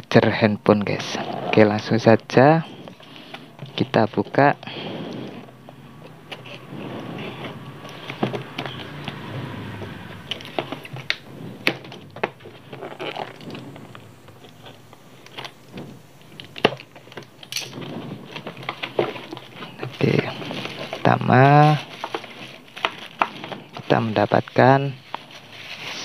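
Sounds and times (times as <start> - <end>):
cardboard packaging rustling: 1.0 - 26.0.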